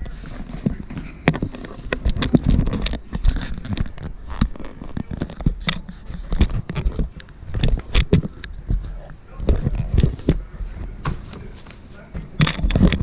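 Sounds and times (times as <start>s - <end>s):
phone handling knocks and scrapes: 0.0s - 13.0s
rustling: 0.0s - 13.0s.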